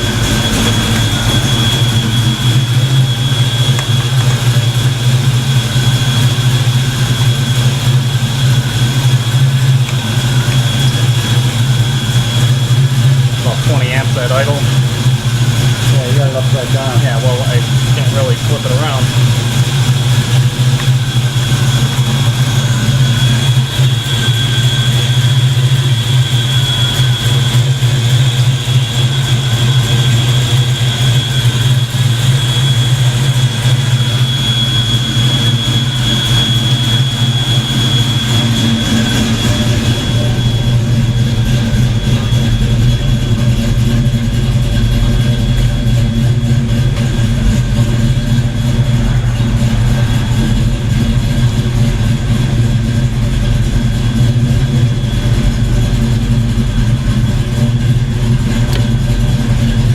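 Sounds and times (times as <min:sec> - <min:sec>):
car engine idling: 0:00.0 - 0:59.9
thin steady whine: 0:00.0 - 0:59.9.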